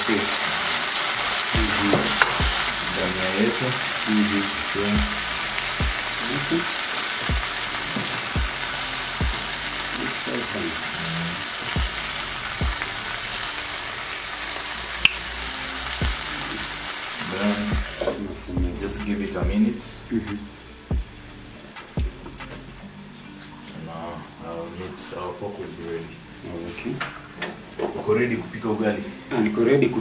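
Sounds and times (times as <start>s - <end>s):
meat and vegetables sizzling: 0.0s - 30.0s.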